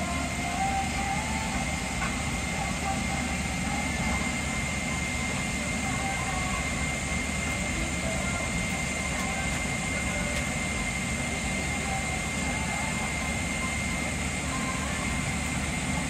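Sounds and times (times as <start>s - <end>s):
airliner cabin noise: 0.0s - 16.0s.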